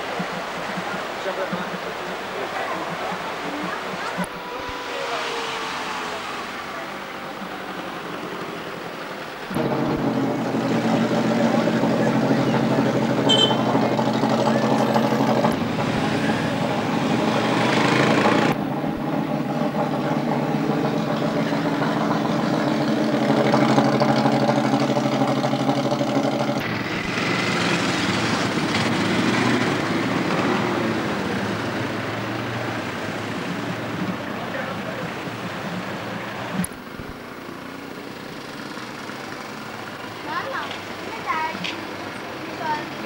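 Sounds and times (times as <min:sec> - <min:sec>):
racing car engines idling: 0:06.2 - 0:43.0.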